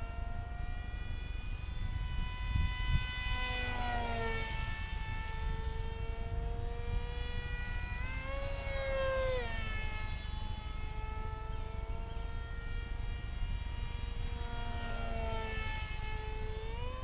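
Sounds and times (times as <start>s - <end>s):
model jet electric motor whine: 0.0s - 17.0s
wind rumble on microphone: 0.0s - 17.0s.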